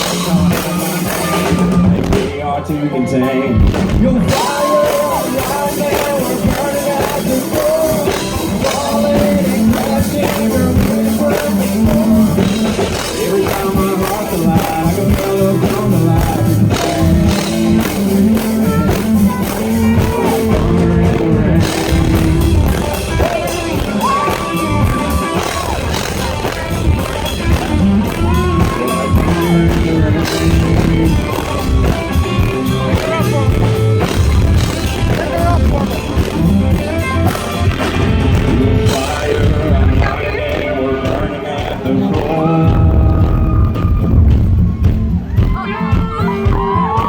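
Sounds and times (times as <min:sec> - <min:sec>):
country rock band playing: 0:00.0 - 0:47.0
crowd noise: 0:00.0 - 0:47.0.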